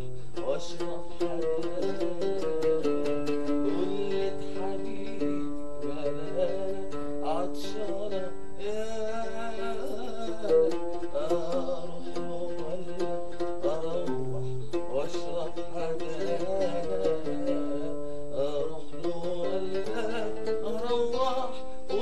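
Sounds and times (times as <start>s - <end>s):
man singing: 0.0s - 22.0s
oud plucked: 0.0s - 22.0s.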